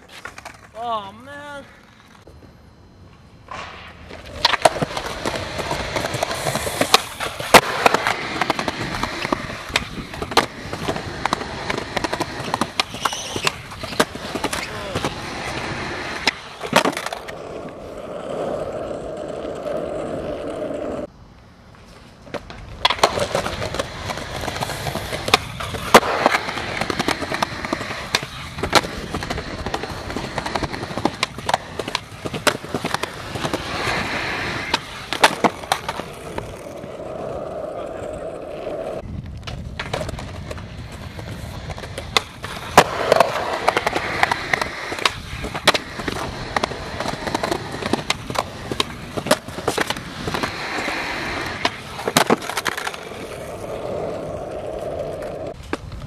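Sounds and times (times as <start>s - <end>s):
skateboard wheels rolling on concrete: 0.0s - 56.0s
skateboard clacks: 3.1s - 21.1s, 22.2s - 56.0s.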